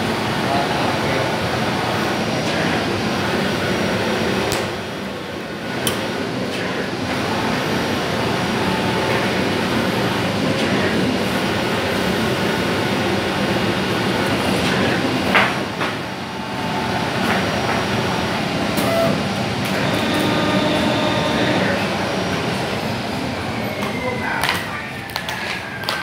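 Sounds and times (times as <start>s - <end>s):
machine whirring and hissing: 0.0s - 26.0s.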